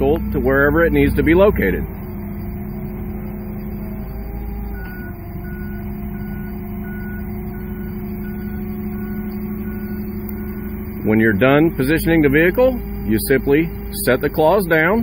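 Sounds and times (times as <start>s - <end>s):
forklift engine running: 0.0s - 15.0s
reversing alarm beeps: 0.0s - 15.0s.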